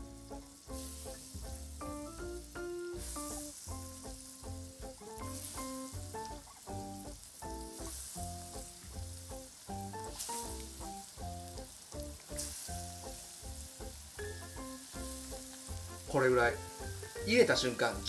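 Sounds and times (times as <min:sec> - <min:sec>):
food frying in oil: 0:00.0 - 0:18.0
music with plucked melody and bass: 0:00.0 - 0:18.0.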